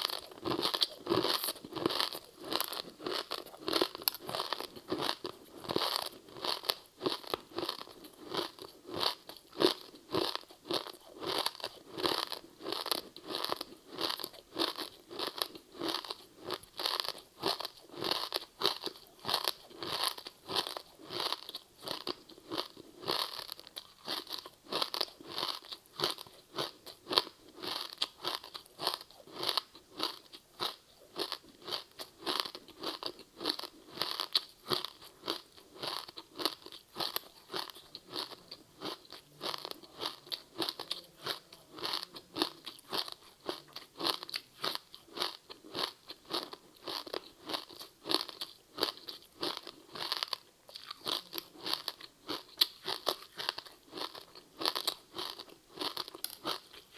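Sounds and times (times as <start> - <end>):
crisp chewing crunches: 0.0 - 56.9.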